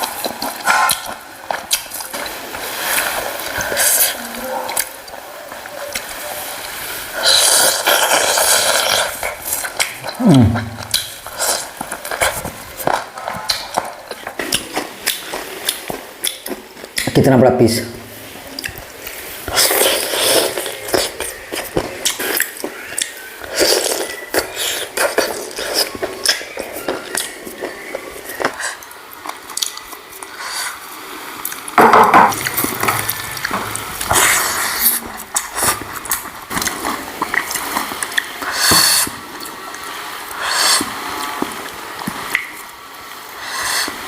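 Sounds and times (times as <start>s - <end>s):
wet chewing and smacking: 0.0s - 6.2s, 7.2s - 17.2s, 18.6s - 30.5s, 31.4s - 39.6s.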